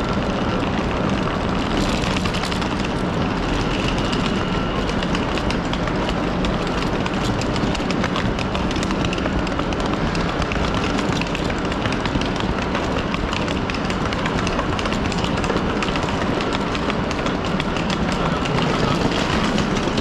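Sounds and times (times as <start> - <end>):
electric trains humming: 0.0 - 20.0
railway platform din: 0.0 - 20.0.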